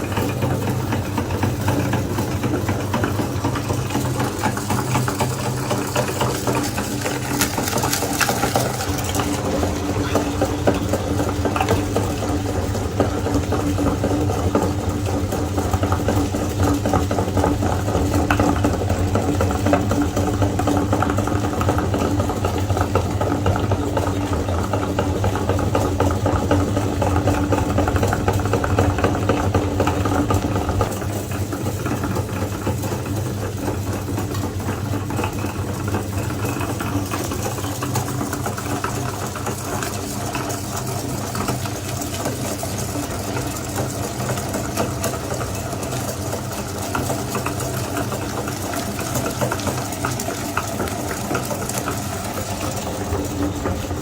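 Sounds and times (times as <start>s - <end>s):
electric meat grinder running: 0.0s - 54.0s.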